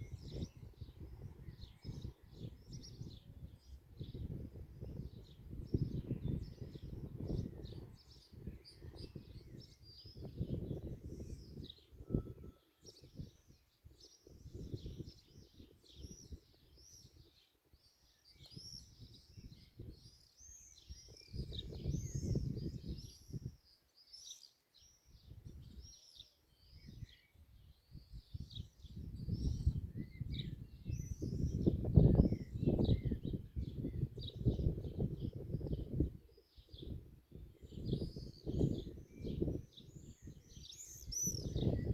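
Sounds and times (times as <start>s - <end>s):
flock of small birds chirping: 0.0s - 41.9s.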